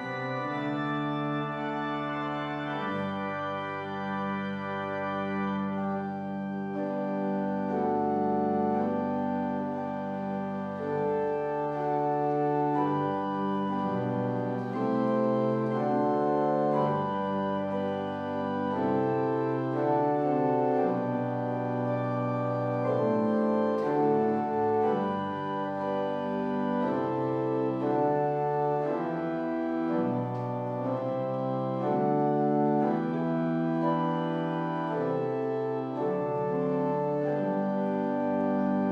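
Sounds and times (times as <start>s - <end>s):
organ playing slow chords: 0.0s - 38.9s.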